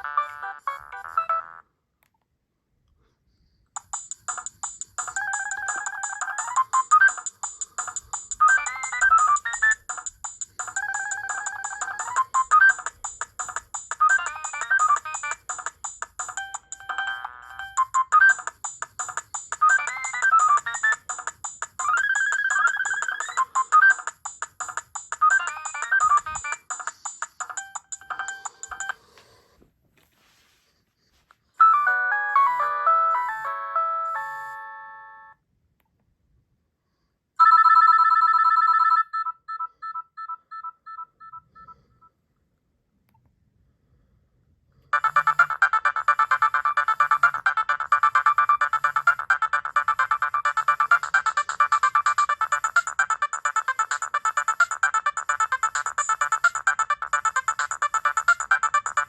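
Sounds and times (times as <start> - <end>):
mobile phone ringtone melody: 0.0 - 1.6, 3.8 - 29.2, 31.6 - 35.4, 37.4 - 42.1, 45.0 - 59.0.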